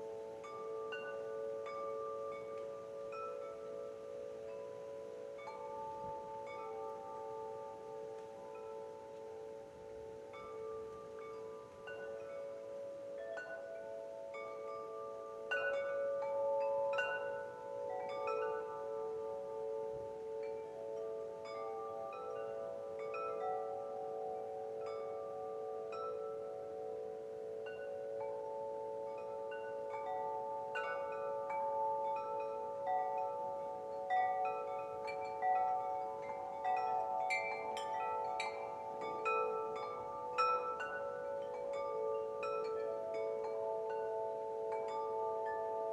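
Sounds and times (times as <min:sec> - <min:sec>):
wind chimes ringing: 0:00.0 - 0:45.9.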